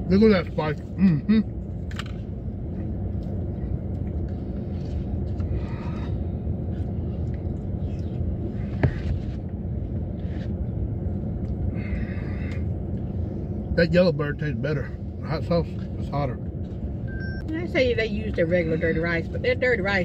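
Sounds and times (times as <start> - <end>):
low rumble in vehicle cabin: 0.0 - 20.0.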